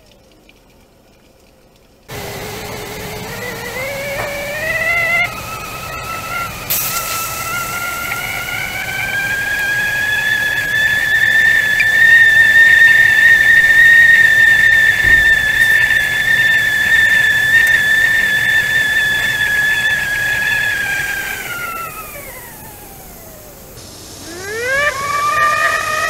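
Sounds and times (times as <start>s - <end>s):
teapot whistling: 2.1s - 26.0s.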